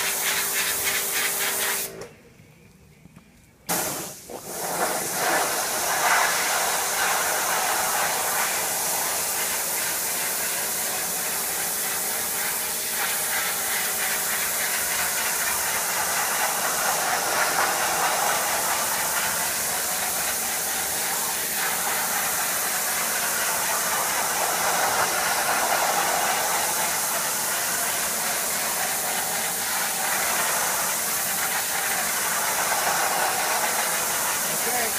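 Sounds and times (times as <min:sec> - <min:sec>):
pressure washer jet hissing: 0:00.0 - 0:02.0, 0:03.7 - 0:34.9.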